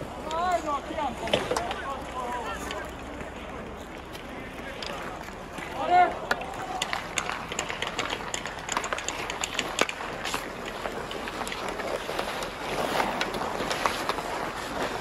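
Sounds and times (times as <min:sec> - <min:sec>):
hockey sticks clacking: 0:00.1 - 0:15.0
skate blades scraping ice: 0:00.1 - 0:15.0.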